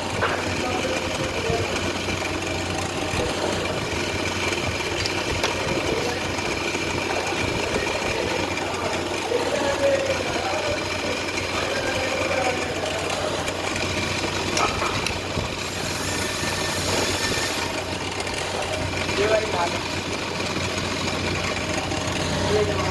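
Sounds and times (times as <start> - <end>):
woodworking machine motor whining: 0.0 - 22.9.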